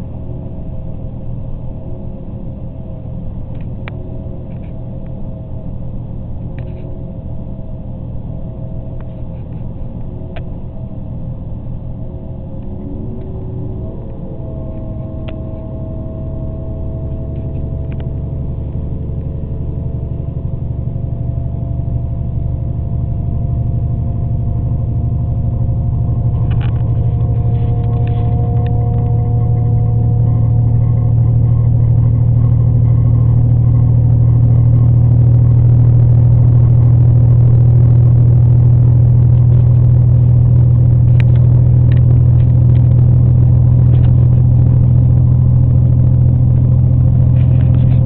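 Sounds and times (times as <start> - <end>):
faint rising whine: 0.0 - 48.0
train engine hum: 0.0 - 48.0
train wheel and running noise: 0.0 - 48.0.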